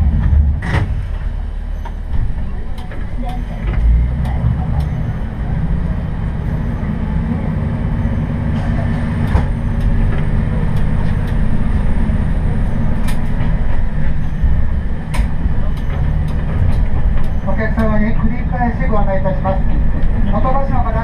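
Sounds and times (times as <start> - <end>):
railcar engine and running rumble: 0.0 - 21.0.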